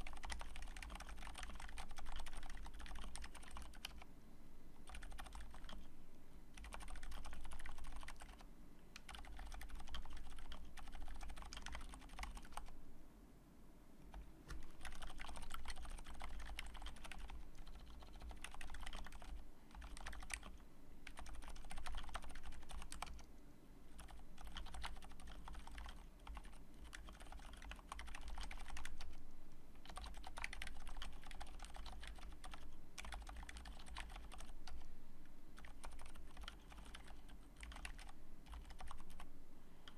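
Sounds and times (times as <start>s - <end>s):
mechanical keyboard typing: 0.0s - 4.1s, 4.8s - 5.9s, 6.6s - 8.4s, 9.0s - 12.7s, 14.1s - 23.3s, 23.9s - 29.2s, 29.8s - 34.8s, 35.6s - 39.3s.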